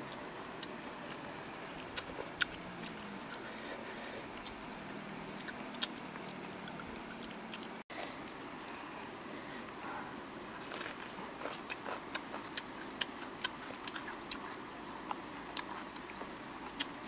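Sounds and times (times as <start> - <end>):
puppies chewing: 0.0 - 9.7, 10.6 - 17.0.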